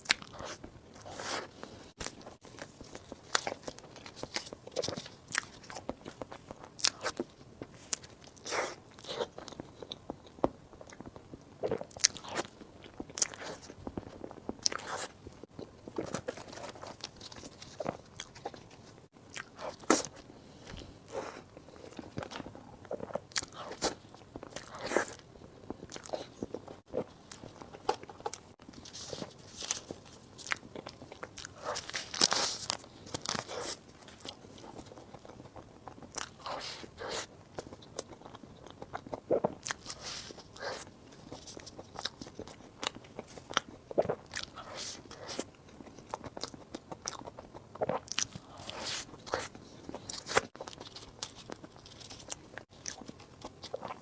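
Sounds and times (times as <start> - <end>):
person biting and chewing food: 0.0 - 54.0.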